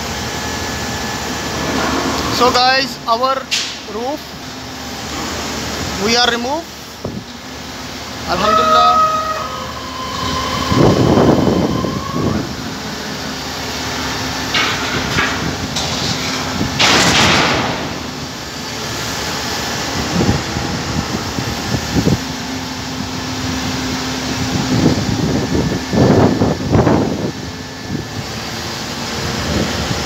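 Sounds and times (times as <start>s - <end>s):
crane engine running: 0.0s - 30.0s.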